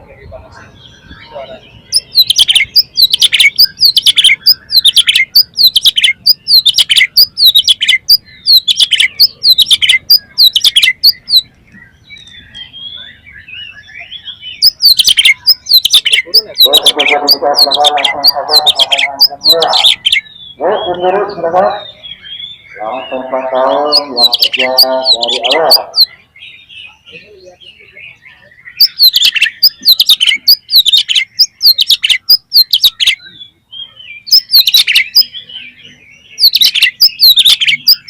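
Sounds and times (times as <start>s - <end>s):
bird singing whistled notes: 0.5s - 38.0s.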